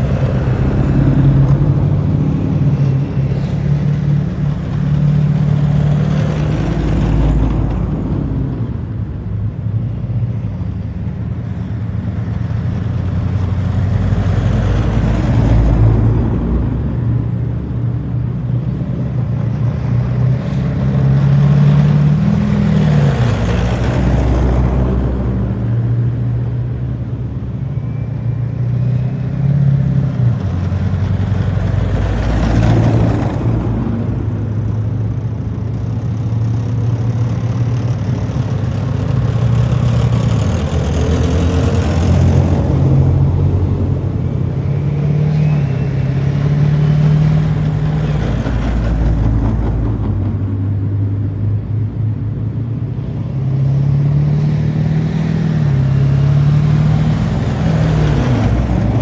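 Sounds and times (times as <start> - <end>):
tracked vehicles driving past: 0.0 - 59.0.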